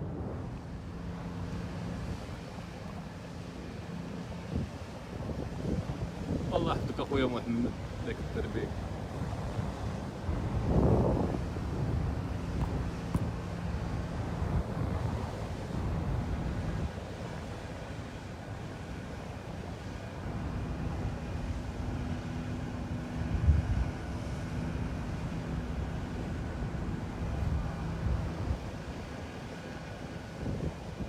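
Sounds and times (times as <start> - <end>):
motorboat engine humming: 0.0 - 31.0
sea wash: 0.0 - 31.0
wind buffeting microphone: 0.0 - 31.0.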